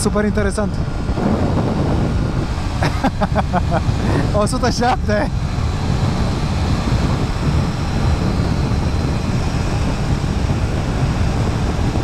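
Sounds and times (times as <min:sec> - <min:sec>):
scooter running noise: 0:00.0 - 0:12.0
wind rush on microphone: 0:00.0 - 0:12.0.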